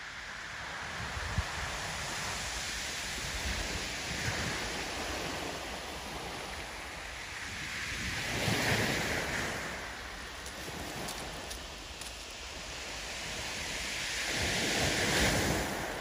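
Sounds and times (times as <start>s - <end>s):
steady rushing outdoor noise: 0.0s - 16.0s.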